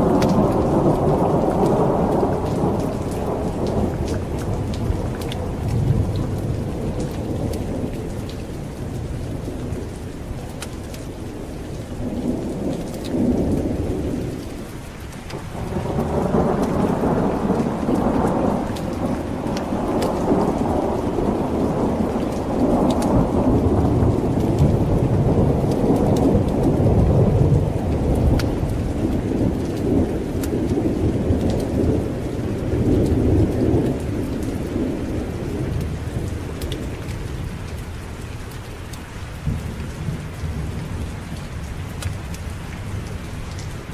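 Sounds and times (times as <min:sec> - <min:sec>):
rolling thunder: 0:00.0 - 0:10.0, 0:11.3 - 0:14.5, 0:15.3 - 0:38.2, 0:39.4 - 0:43.9
heavy rain: 0:00.0 - 0:43.9.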